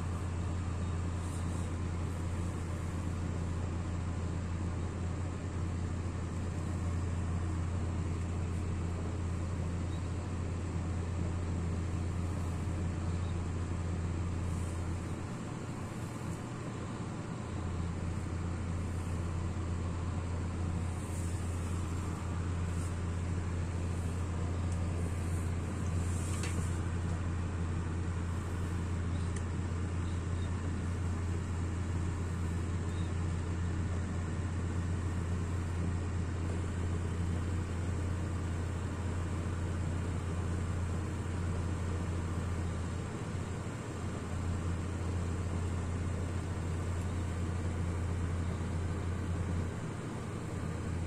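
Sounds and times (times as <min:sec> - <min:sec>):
stove burner drone: 0:00.0 - 0:51.0.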